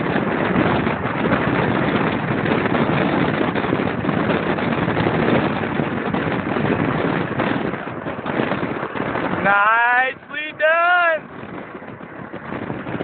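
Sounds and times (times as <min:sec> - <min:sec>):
wheels rolling on asphalt: 0:00.0 - 0:13.0
wind buffeting microphone: 0:00.0 - 0:13.0.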